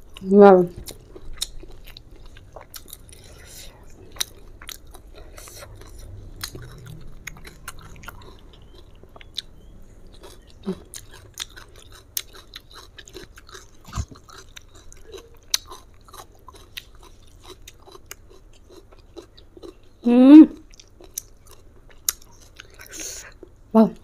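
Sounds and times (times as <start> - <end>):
person chewing food: 0.0 - 20.0, 20.6 - 23.6.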